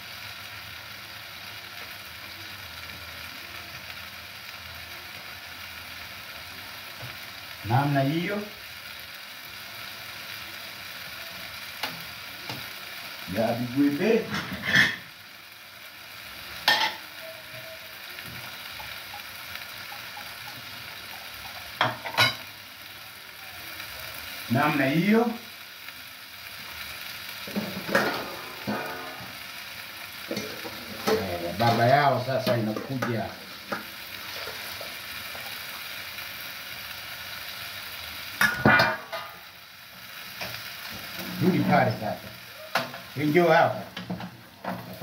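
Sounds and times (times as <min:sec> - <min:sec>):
food sizzling in pans: 0:00.0 - 0:45.0.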